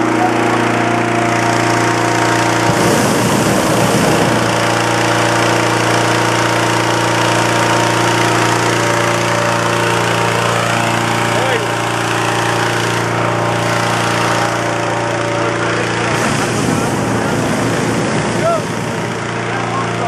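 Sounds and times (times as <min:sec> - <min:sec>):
balloon inflator fan running: 0:00.0 - 0:20.0.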